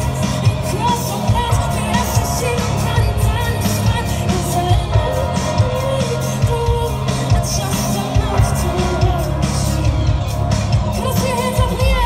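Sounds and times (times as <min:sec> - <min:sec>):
drums: 0:00.0 - 0:12.0
heavy bass line: 0:00.0 - 0:12.0
woman singing: 0:00.0 - 0:12.0.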